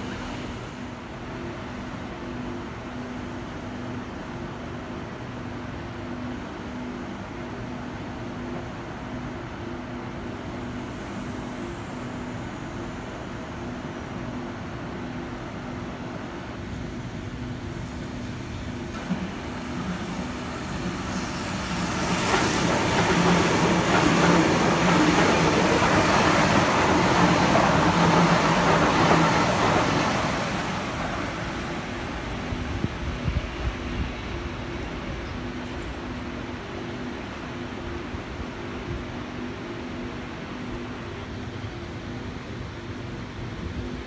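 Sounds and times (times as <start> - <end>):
electric train passing: 0.0 - 44.0.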